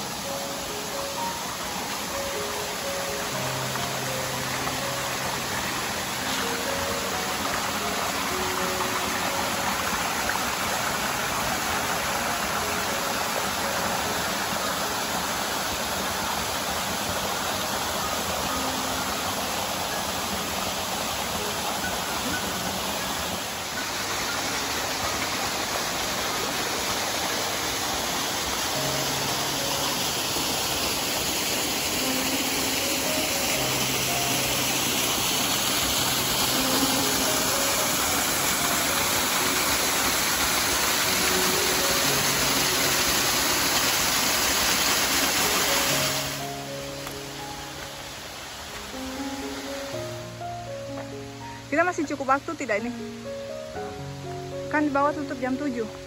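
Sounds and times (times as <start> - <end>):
stream water splashing over rocks: 0.0 - 52.8
soft background music: 0.0 - 56.0.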